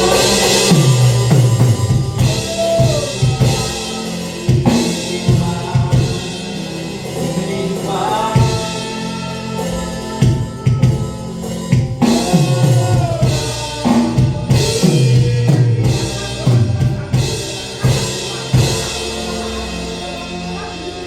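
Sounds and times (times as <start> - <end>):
drum kit hits: 0.0 - 21.0
sliding bass notes: 0.0 - 21.0
worship band playing: 0.0 - 21.0.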